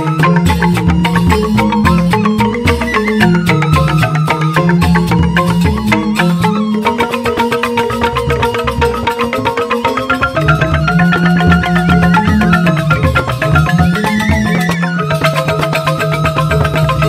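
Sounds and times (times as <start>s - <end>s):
bamboo flutes melody: 0.0s - 17.0s
bamboo xylophones interlocking: 0.0s - 17.0s.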